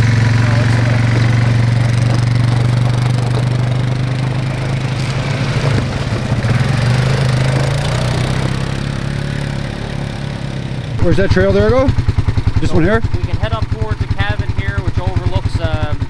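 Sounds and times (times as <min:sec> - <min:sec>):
quad engine humming: 0:00.0 - 0:16.0
quads pulling away over gravel: 0:00.0 - 0:16.0.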